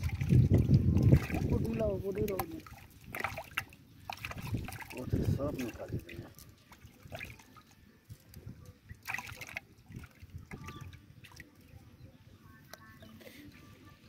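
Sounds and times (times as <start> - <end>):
trickling water: 0.0 - 11.8.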